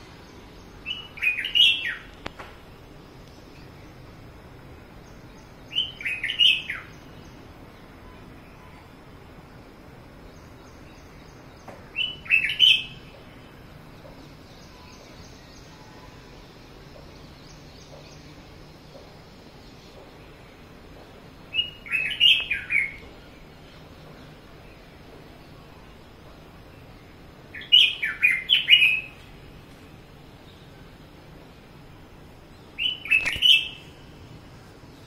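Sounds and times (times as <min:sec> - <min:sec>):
bird singing: 0:00.0 - 0:02.4, 0:03.0 - 0:31.7, 0:32.3 - 0:35.0.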